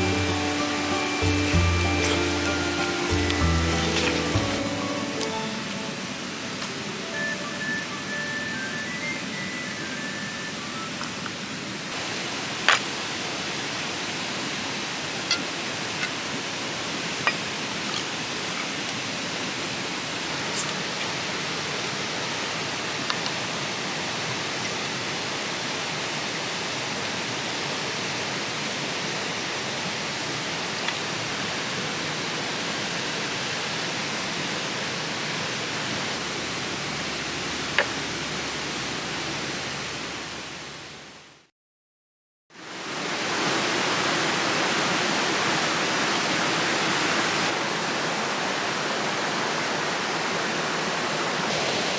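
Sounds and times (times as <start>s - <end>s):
stream rushing over rocks: 0.0s - 41.3s, 42.6s - 51.9s.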